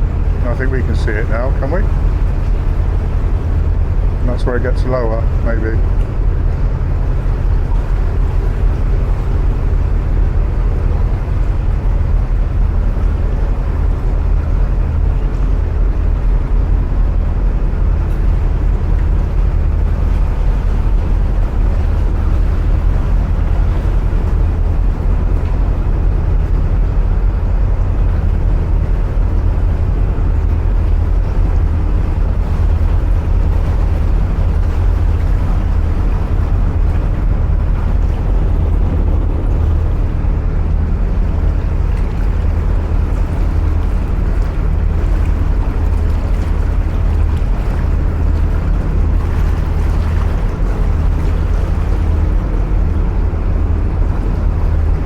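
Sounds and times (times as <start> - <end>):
diesel engine running in tunnel: 0.0 - 55.0.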